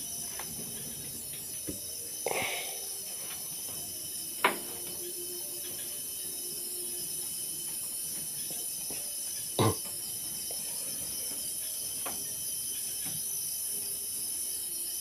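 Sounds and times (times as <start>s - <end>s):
night insects droning: 0.0s - 15.0s.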